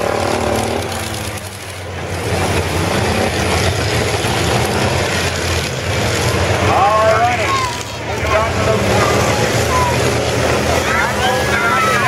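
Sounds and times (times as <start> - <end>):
car engines running hard: 0.0 - 12.0
wheels spinning on dirt: 0.0 - 12.0.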